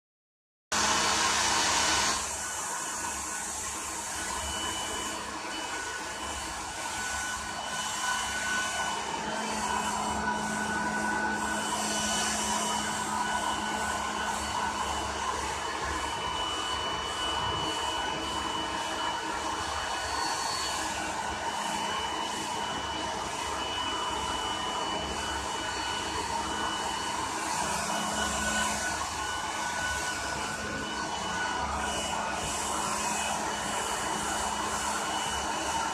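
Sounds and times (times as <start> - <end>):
blow dryer running: 0.7 - 35.9.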